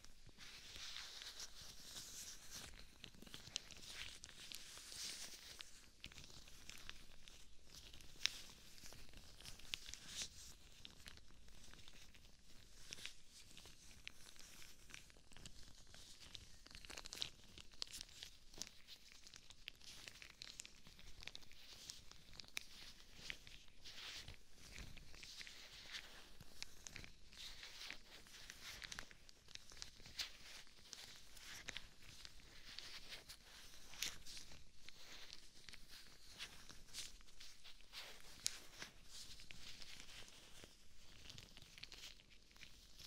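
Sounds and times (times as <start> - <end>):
rubber gloves rubbing on microphone: 0.0 - 19.1, 21.0 - 43.0.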